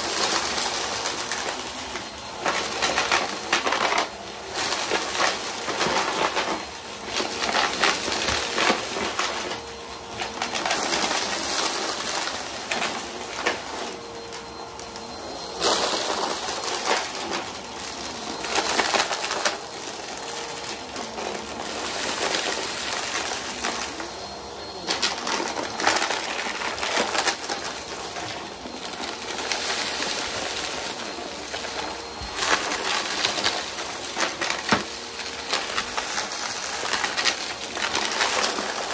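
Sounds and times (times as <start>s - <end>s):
upright vacuum running: 0.0s - 38.9s.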